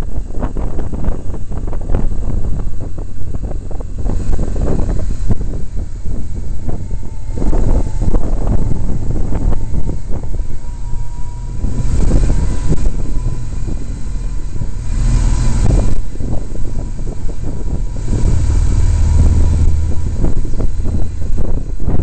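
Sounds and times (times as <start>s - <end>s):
wind buffeting microphone: 0.0s - 22.0s
motorcycle engine: 1.7s - 22.0s.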